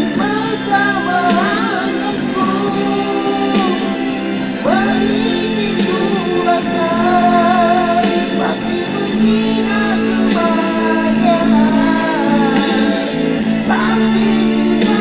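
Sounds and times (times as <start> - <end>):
person singing: 0.0 - 15.0
steady music accompaniment: 0.0 - 15.0.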